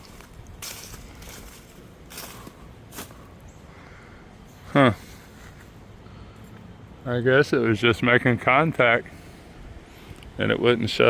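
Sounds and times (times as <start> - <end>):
quiet outdoor ambience: 0.0 - 11.0.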